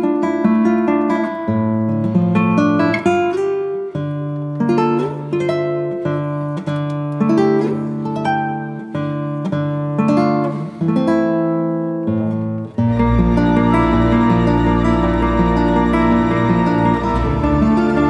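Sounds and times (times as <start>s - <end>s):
plucked acoustic guitar: 0.0s - 18.0s.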